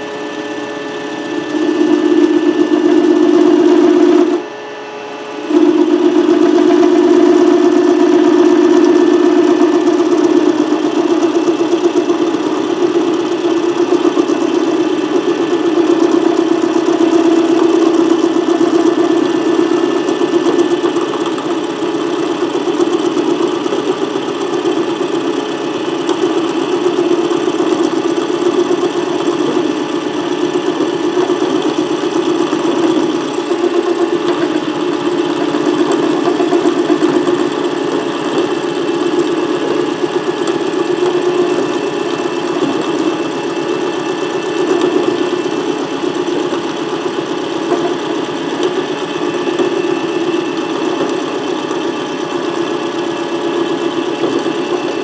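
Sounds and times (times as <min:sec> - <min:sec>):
milling machine cutting metal: 0:00.0 - 0:55.0.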